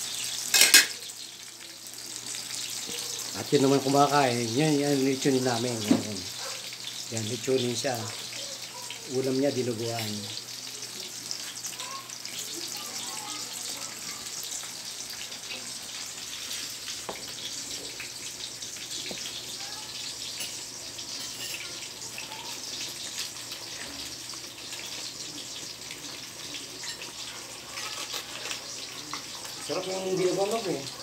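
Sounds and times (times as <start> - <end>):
eggplant frying in oil: 0.0 - 31.0
meat simmering in a wok: 0.0 - 31.0.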